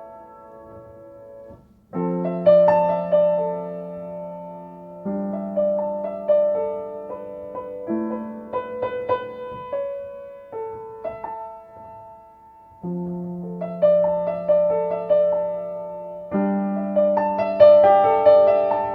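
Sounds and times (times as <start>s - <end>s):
slow gentle solo piano: 0.0s - 18.9s.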